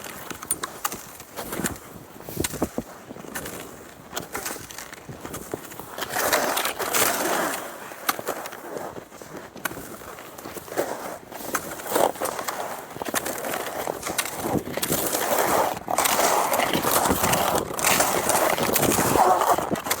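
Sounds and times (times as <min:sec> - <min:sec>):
skis gliding over snow: 0:00.0 - 0:20.0.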